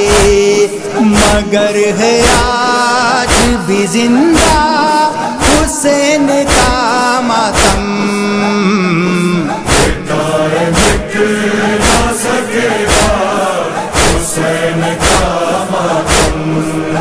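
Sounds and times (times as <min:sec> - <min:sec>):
heavy percussive beat: 0:00.0 - 0:10.1, 0:10.7 - 0:17.0
lead reciter singing: 0:00.0 - 0:17.0
voices chanting a lament: 0:00.0 - 0:17.0.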